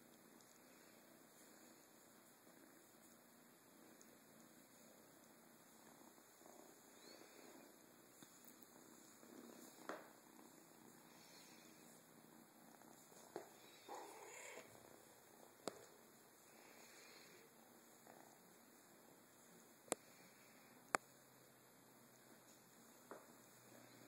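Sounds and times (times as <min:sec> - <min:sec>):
kitten purring: 0:00.0 - 0:21.2, 0:21.8 - 0:24.0.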